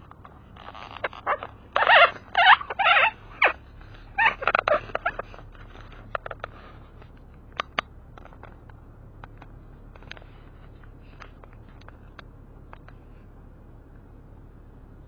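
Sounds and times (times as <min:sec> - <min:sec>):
car engine idling hum: 0:00.0 - 0:15.0.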